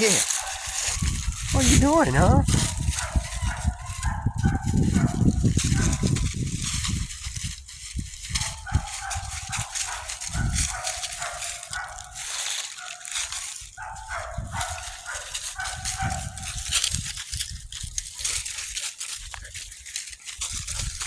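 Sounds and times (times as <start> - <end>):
puppies barking and yipping: 0.0 - 7.5, 8.2 - 21.0.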